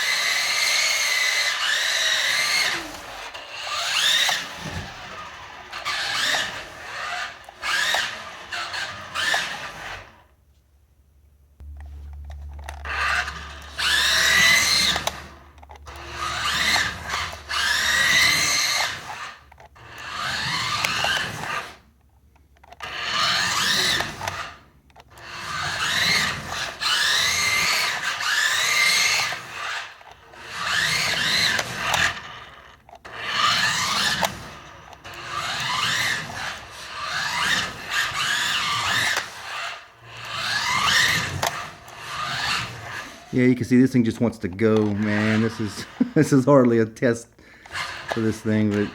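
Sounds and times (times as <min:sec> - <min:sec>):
rc car electric motors whining: 0:00.0 - 0:10.3, 0:11.8 - 0:46.8, 0:47.5 - 0:48.9.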